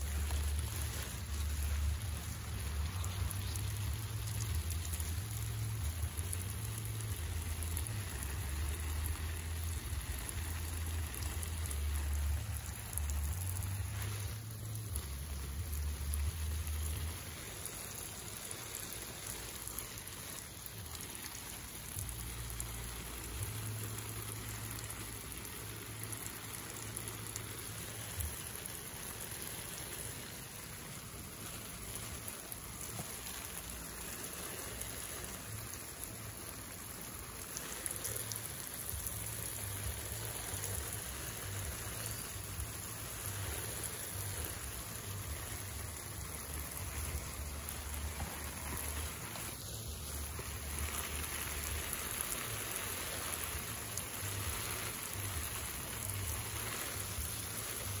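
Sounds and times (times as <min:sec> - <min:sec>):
falling water hissing: 0:00.0 - 0:58.0.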